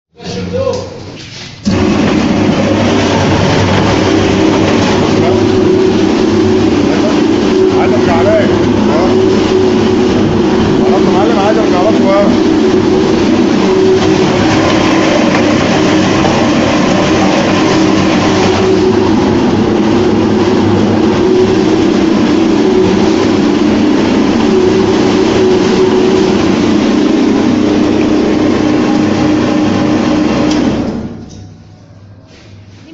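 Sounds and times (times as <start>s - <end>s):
meat grinder machine hum: 1.2s - 31.4s
grinding noise: 1.7s - 31.5s.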